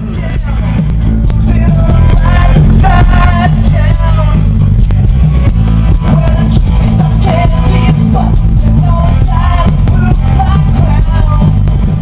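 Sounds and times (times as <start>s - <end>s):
heavy bass music: 0.0s - 12.0s
person singing: 0.0s - 12.0s.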